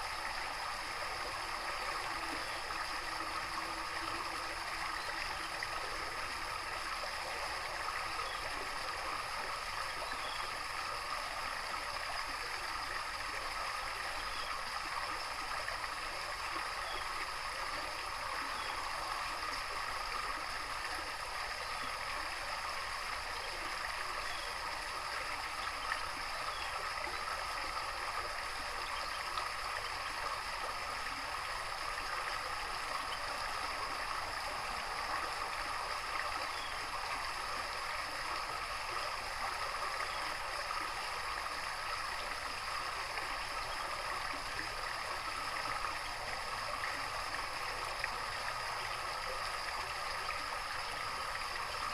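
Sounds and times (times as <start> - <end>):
running water: 0.0 - 51.9.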